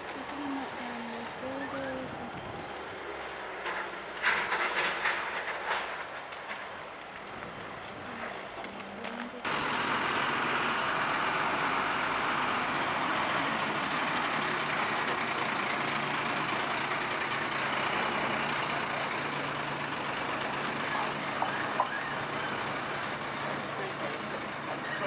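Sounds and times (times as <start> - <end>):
fire engine humming: 0.0 - 25.0.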